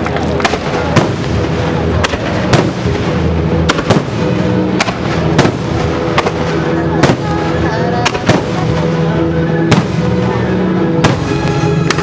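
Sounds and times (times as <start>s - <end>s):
fireworks bangs: 0.0s - 10.4s, 11.0s - 12.0s.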